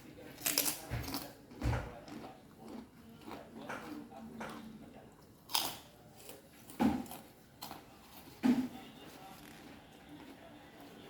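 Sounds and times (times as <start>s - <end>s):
person chewing and crunching: 0.0s - 11.0s.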